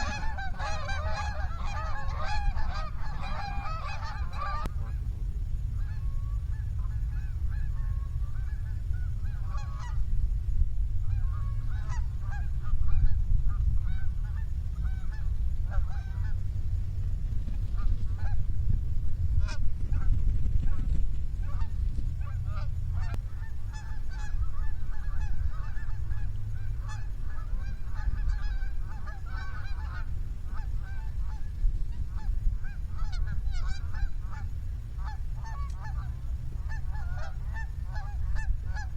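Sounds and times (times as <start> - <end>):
geese honking: 0.0 - 5.0, 5.8 - 10.1, 11.0 - 18.8, 19.4 - 20.1, 21.4 - 38.9
low rumble: 0.0 - 38.9.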